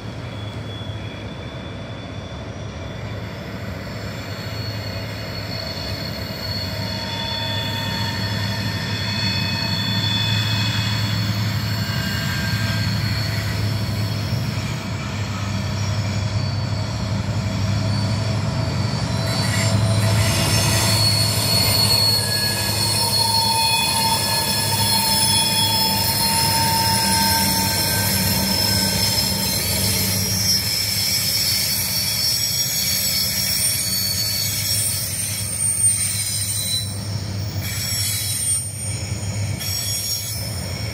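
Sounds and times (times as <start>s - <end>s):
locomotive engine hum: 0.0s - 32.8s
train wheels squealing: 0.0s - 40.9s.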